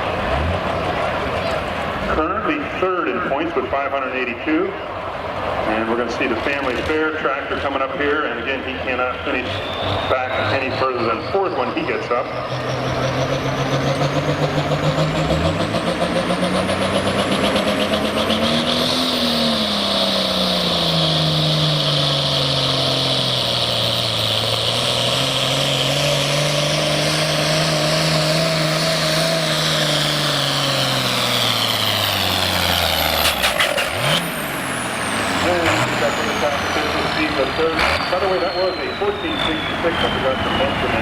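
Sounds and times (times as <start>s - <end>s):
high engine whine: 0.0s - 41.0s
tractor diesel engine under load: 0.0s - 41.0s.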